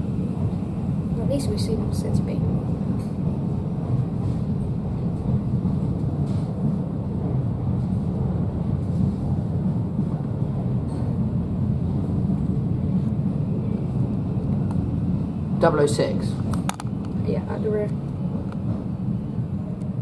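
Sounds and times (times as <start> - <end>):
low rumble of station and city: 0.0 - 20.0.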